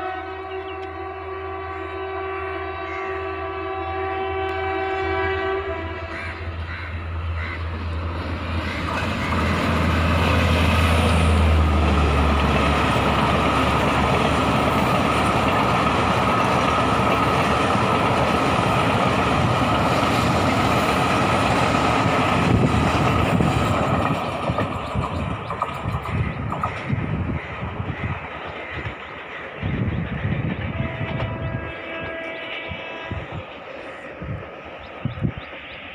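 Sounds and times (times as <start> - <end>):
locomotive hum: 0.0 - 35.9
train wheels rumbling on rails: 4.1 - 35.9.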